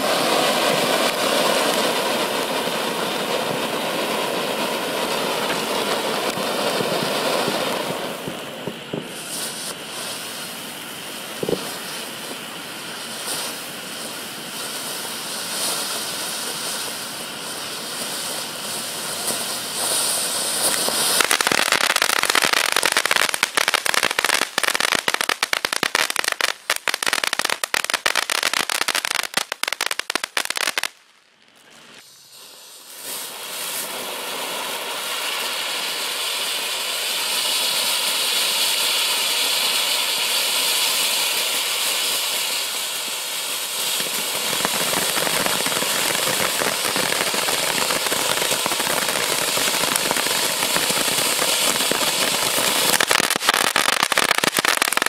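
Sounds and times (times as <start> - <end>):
firework fountain hissing and crackling: 0.0 - 55.0
firework fountain rushing hiss: 0.0 - 55.0.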